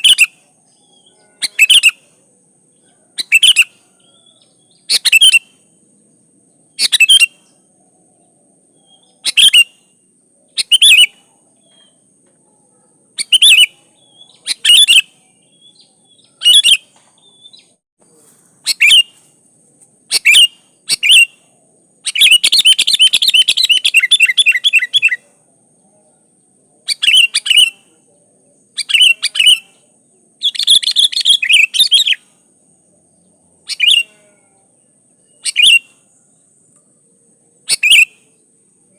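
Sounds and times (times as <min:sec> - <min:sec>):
bulbul singing: 0:00.0 - 0:17.9, 0:18.6 - 0:38.9.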